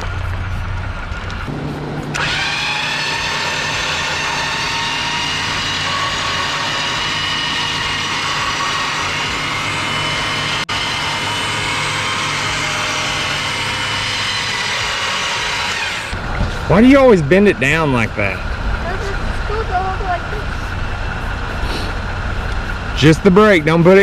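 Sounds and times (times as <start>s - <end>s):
motor running with high whine: 0.0s - 24.0s.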